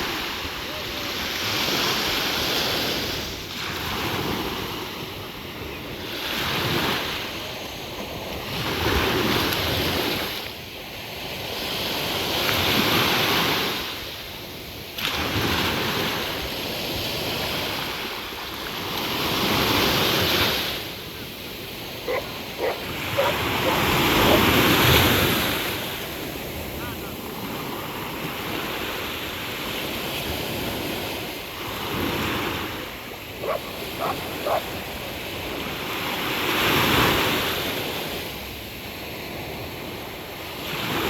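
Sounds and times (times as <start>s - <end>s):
sea waves washing ashore: 0.0s - 41.0s.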